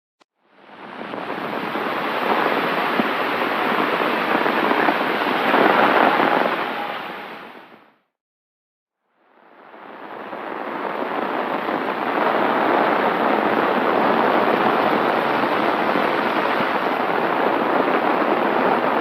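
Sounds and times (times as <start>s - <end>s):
heavy rain hissing: 0.5s - 7.9s, 9.4s - 19.0s.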